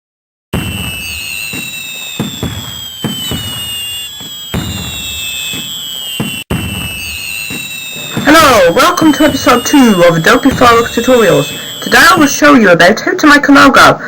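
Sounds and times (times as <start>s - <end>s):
whistling rockets: 0.5s - 12.9s
fireworks bangs and crackling: 0.5s - 13.4s.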